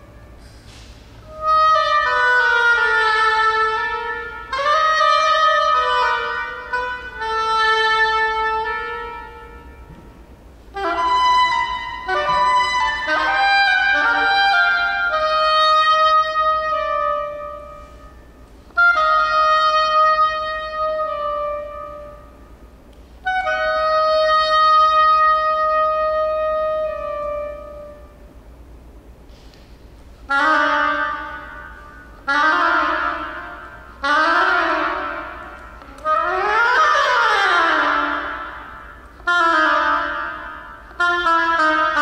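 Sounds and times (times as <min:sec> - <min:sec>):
solo oboe playing: 0:00.0 - 0:28.7, 0:30.0 - 0:42.0.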